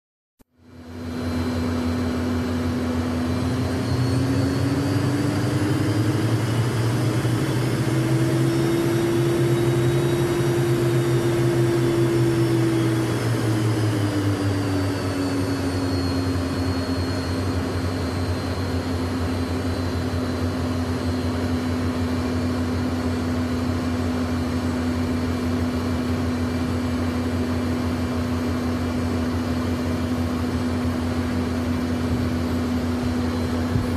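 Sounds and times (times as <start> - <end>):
jet engines humming and whining: 0.5 - 33.9.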